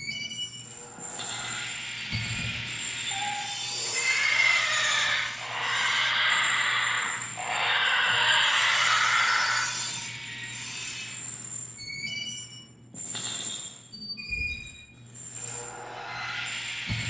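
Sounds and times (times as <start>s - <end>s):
high metallic squeals and clinks: 0.0s - 17.0s.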